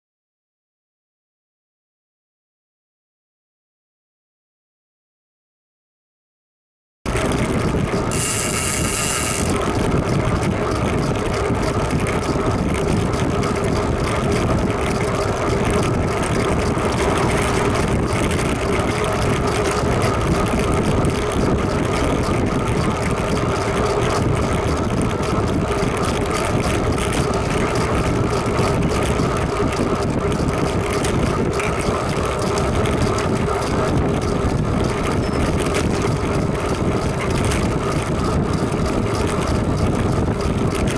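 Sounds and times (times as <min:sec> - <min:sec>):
wind and road noise: 0:07.1 - 0:40.9.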